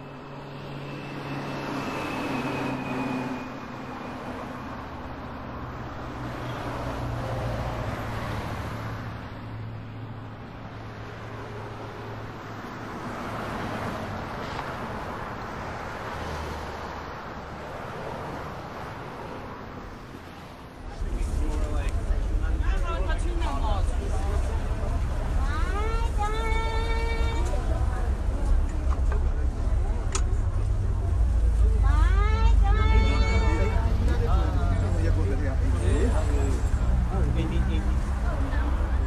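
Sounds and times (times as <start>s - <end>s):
vehicles passing: 0.0s - 39.0s.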